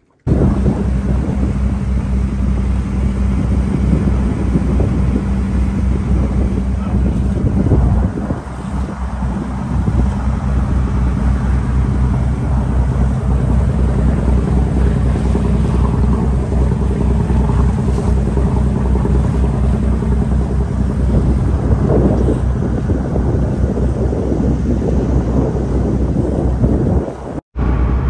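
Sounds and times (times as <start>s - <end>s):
boat engine droning: 0.0s - 28.0s
water rushing past hull: 0.0s - 28.0s.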